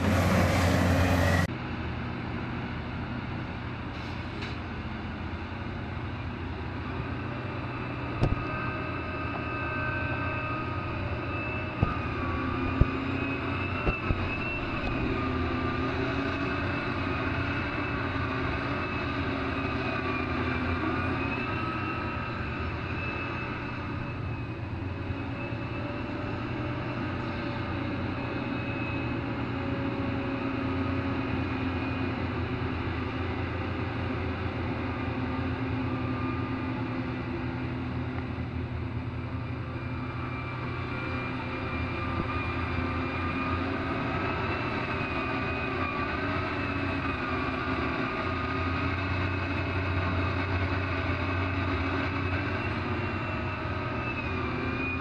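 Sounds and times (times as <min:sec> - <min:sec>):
excavator diesel engine: 0:00.0 - 0:55.0
hydraulic whine: 0:07.3 - 0:55.0.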